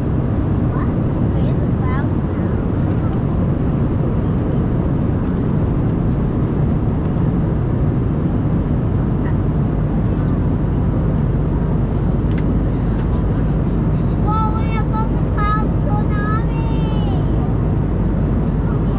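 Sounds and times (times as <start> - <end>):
airliner cabin roar: 0.0 - 18.9.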